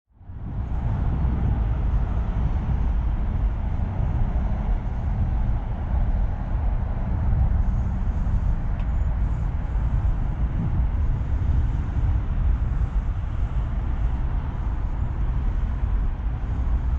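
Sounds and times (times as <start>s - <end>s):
car engine rumbling: 0.2s - 16.9s.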